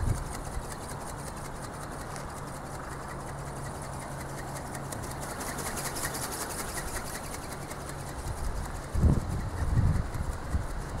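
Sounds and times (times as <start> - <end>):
small electric motor whirring: 0.0 - 11.0
wing drive ticking: 0.0 - 11.0.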